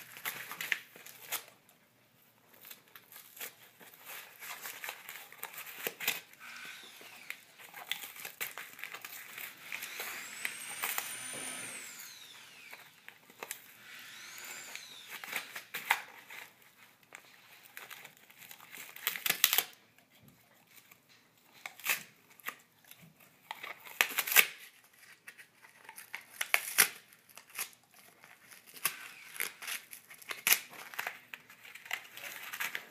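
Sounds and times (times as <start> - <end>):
dog tearing cardboard: 0.0 - 1.6, 2.6 - 13.8, 14.5 - 19.8, 20.6 - 32.9.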